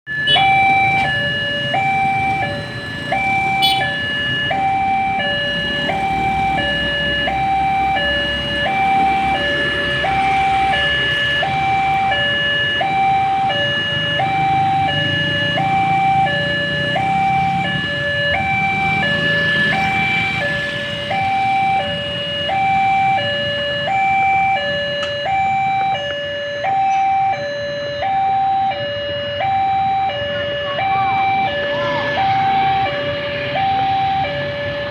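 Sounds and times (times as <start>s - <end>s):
two-tone crossing alarm: 0.1s - 34.9s.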